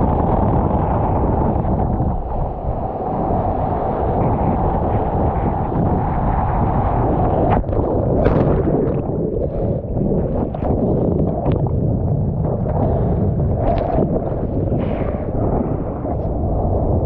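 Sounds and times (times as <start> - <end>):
surf churning and splashing: 0.0 - 17.0
wind rumbling on microphone: 0.0 - 17.0.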